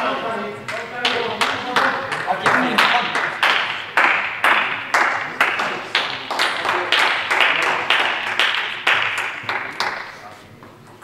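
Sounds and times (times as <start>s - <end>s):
spectators clapping in unison: 0.0s - 10.4s.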